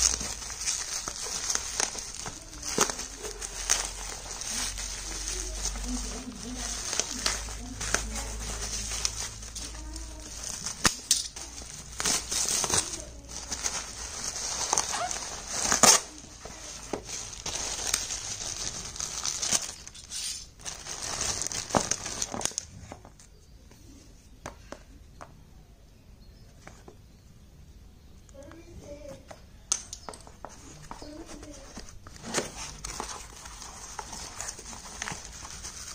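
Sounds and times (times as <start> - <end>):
bubble wrap crinkling: 0.0 - 23.4, 29.7 - 35.9.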